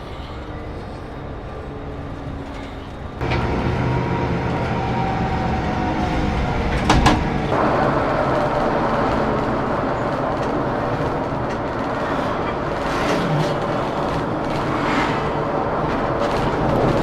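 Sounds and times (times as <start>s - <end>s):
coach engine and road noise: 0.0s - 17.0s.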